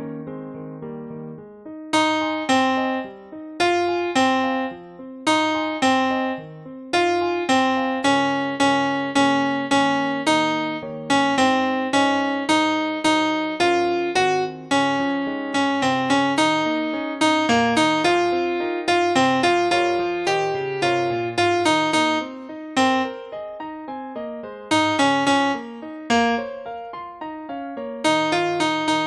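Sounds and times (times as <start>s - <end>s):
electric piano melody: 0.0s - 29.0s.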